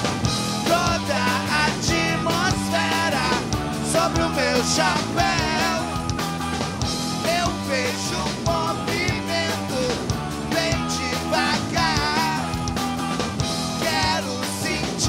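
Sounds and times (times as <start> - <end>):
drums: 0.0 - 15.0
electric guitar: 0.0 - 15.0
man singing: 0.6 - 6.2, 7.2 - 12.8, 13.6 - 15.0.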